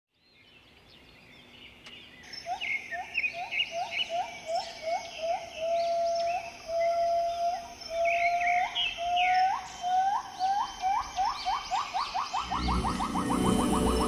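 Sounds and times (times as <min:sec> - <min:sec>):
birds chirping and calling: 0:00.6 - 0:14.0.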